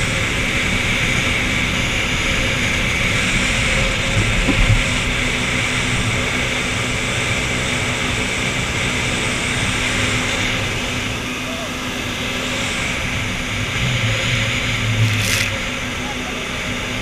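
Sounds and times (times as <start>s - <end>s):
jet boat engine drone: 0.0s - 17.0s
rushing wind and water: 0.0s - 17.0s.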